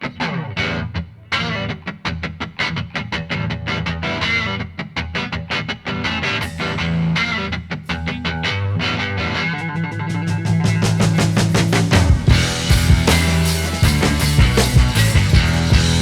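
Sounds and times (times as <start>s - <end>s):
fast-picked guitar music: 0.0s - 16.0s.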